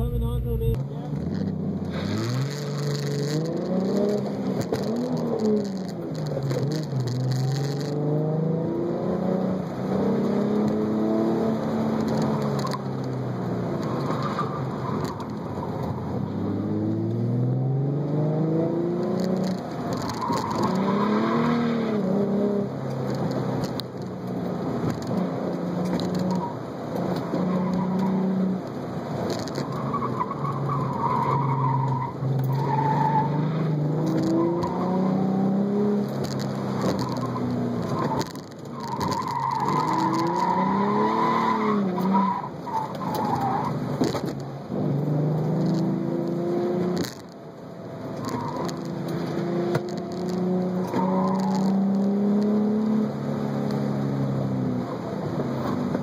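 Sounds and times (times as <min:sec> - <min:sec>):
car engine revving: 0:00.0 - 0:47.4, 0:48.0 - 0:56.0.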